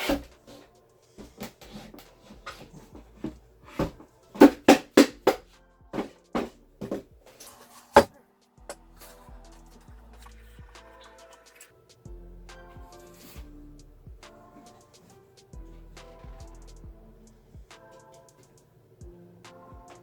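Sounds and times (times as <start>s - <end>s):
background music with drum hits: 0.0s - 7.3s, 8.0s - 11.3s, 11.9s - 17.0s, 17.6s - 18.2s.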